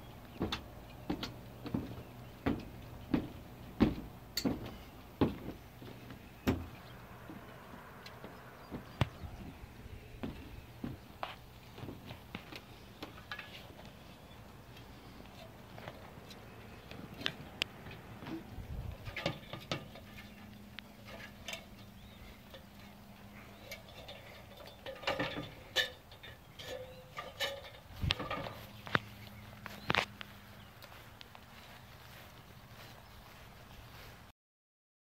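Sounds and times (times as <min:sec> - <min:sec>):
soft footsteps: 0:00.0 - 0:24.6, 0:26.7 - 0:34.3.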